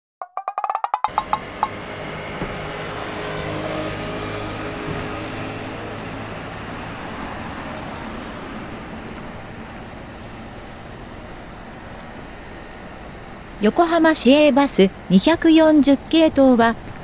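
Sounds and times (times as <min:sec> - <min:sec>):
traffic hum: 0:01.1 - 0:17.0
vehicle engine humming: 0:01.1 - 0:17.0.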